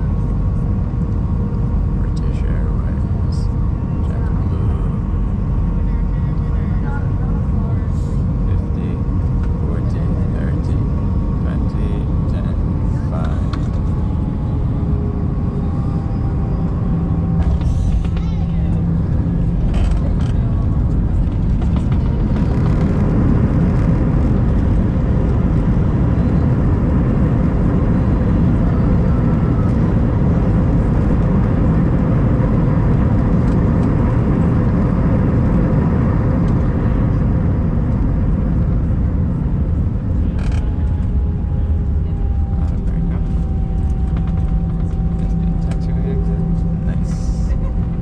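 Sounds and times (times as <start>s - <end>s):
jet cabin low rumble: 0.0s - 48.0s.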